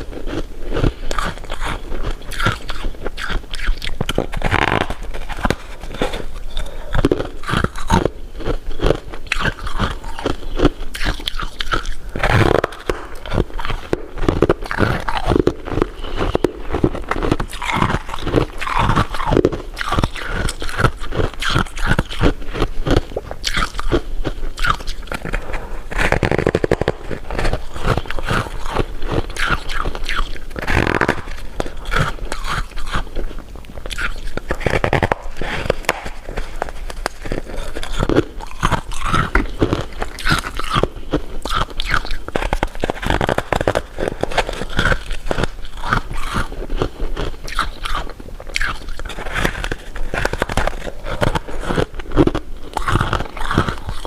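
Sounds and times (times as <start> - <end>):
candy crunching: 0.0 - 54.0
wet chewing: 0.0 - 54.0.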